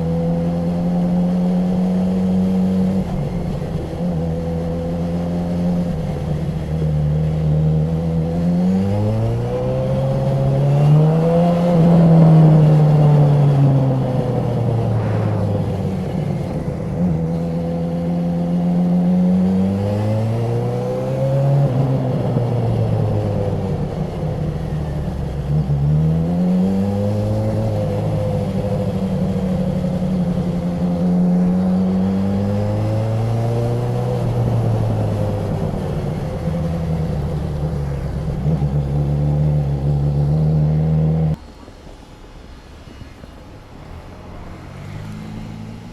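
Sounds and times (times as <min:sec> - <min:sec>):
motorcycle engine revving: 0:00.0 - 0:41.4.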